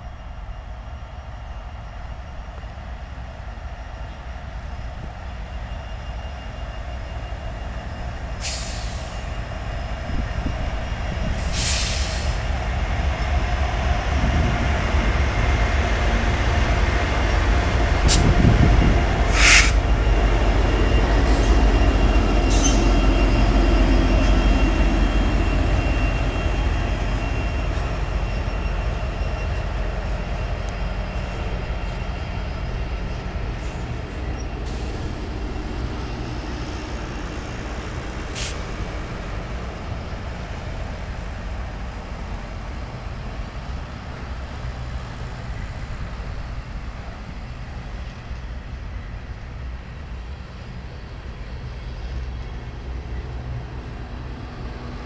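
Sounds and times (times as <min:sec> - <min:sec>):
diesel freight train passing: 0:00.0 - 0:55.0.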